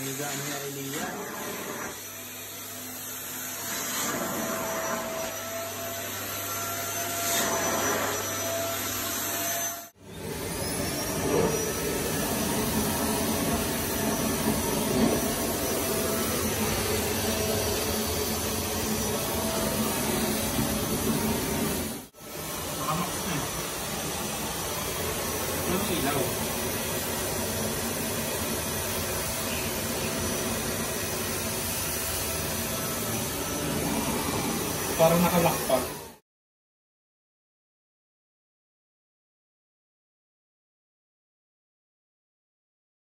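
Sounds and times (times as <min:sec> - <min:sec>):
vacuum cleaner running: 0:00.0 - 0:36.2.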